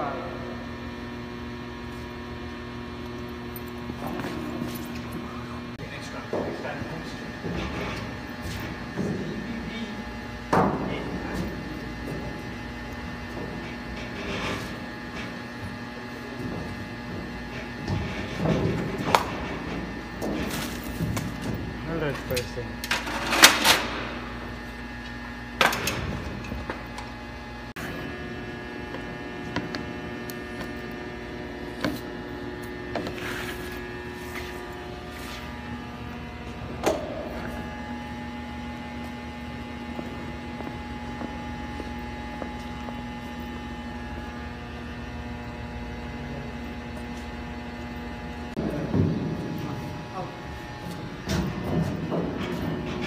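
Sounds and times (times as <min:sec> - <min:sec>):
electric machine hum: 0:00.0 - 0:53.0.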